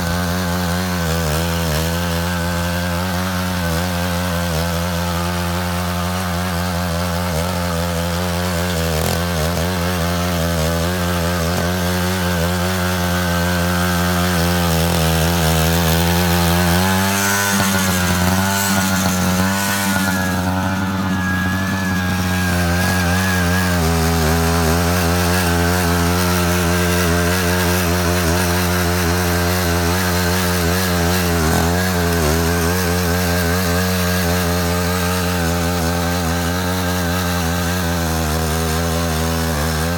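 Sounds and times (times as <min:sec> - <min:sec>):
small tiller engine running: 0:00.0 - 0:39.9.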